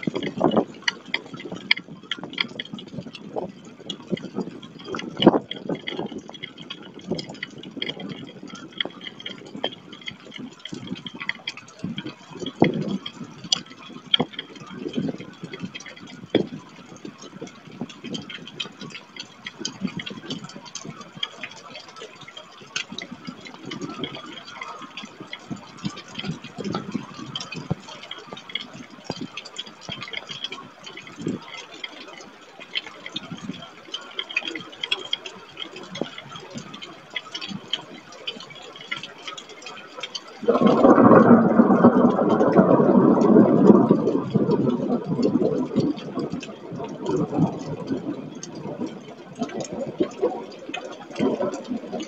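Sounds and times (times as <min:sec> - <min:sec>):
storm wind gusting on microphone: 0:00.0 - 0:21.5, 0:22.8 - 0:31.5, 0:40.4 - 0:52.0
raindrops hitting microphone: 0:00.0 - 0:52.0.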